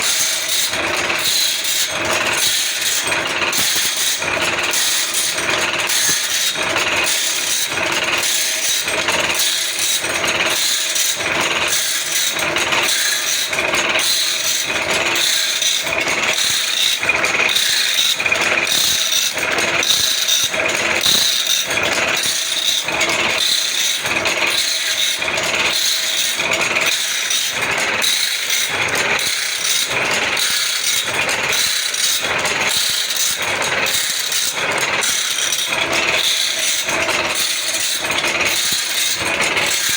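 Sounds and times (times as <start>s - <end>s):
grinding wheel strokes: 0.0s - 39.9s
motor running: 0.0s - 39.9s.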